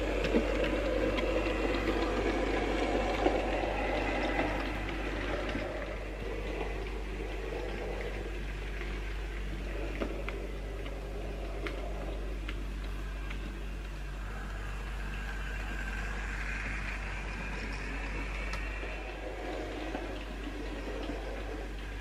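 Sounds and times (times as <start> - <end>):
model train motor hum: 0.0 - 22.0
wheels clicking on rails: 0.0 - 22.0.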